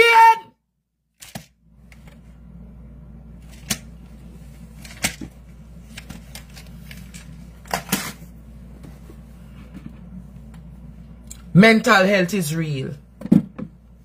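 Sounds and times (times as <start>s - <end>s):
steady low hum: 0.6s - 14.0s.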